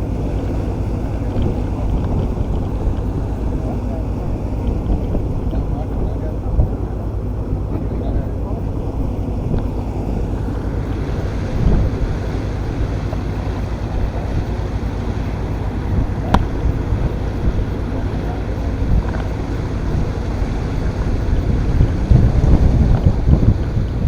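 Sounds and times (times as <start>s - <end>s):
boat engine rumble: 0.0s - 24.0s
wind buffeting microphone: 0.0s - 24.0s.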